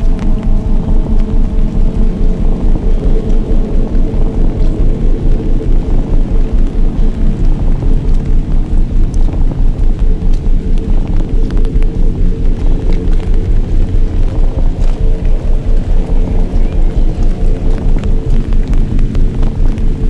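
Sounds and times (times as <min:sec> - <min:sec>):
low throbbing drone: 0:00.0 - 0:20.0.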